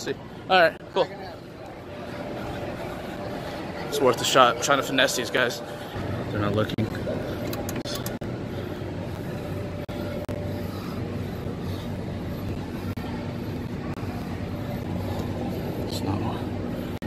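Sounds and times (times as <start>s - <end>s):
ventilation rushing hum: 0.0s - 17.0s.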